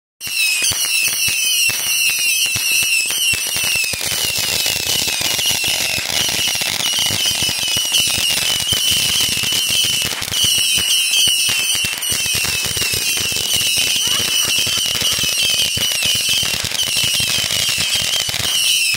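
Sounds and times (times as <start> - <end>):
fireworks crackling pops: 0.2 - 18.9
shrill warbling firework whistle: 0.2 - 18.9.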